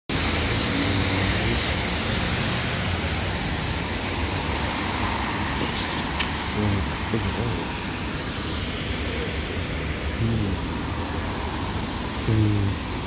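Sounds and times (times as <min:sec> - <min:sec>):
bus engine humming: 0:00.1 - 0:13.0
traffic noise: 0:00.1 - 0:13.0
tyres hissing on wet road: 0:00.1 - 0:13.0.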